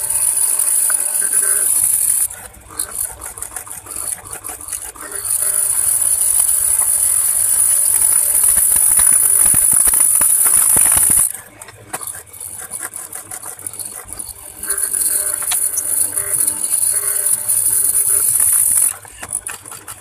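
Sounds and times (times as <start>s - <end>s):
machine rattling and clicks: 0.0s - 20.0s
planer cutting wooden board: 0.0s - 20.0s
planer machine running: 0.0s - 20.0s.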